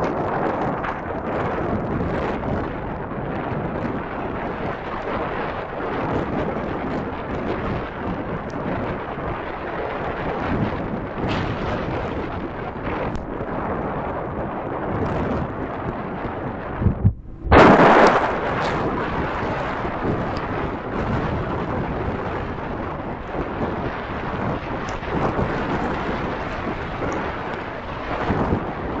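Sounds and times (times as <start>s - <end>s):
heavy rain: 0.0s - 16.8s, 17.5s - 29.0s
wind buffeting microphone: 0.0s - 29.0s.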